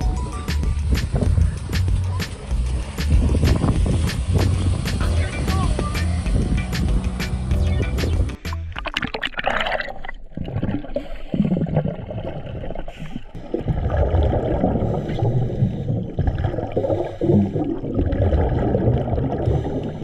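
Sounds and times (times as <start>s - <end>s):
rush of water: 0.0s - 20.0s
underwater gurgling and sloshing: 0.0s - 20.0s.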